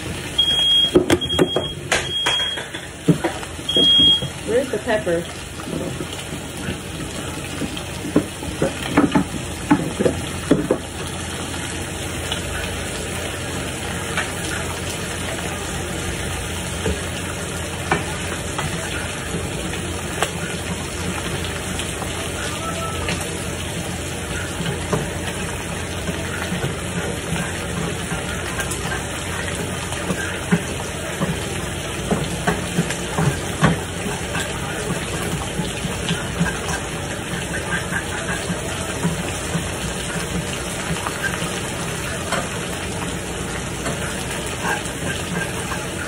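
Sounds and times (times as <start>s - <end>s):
food sizzling in frying pans: 0.0s - 46.0s.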